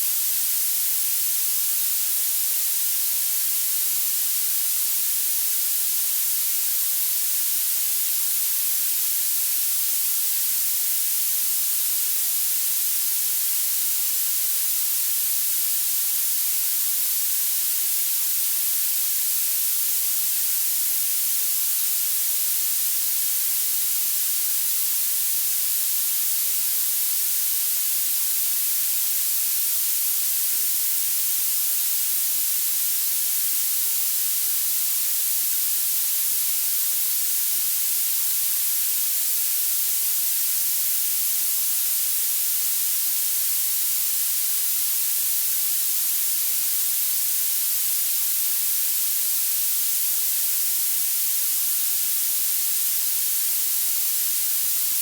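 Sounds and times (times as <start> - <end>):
synthetic violet noise hiss: 0.0 - 55.0.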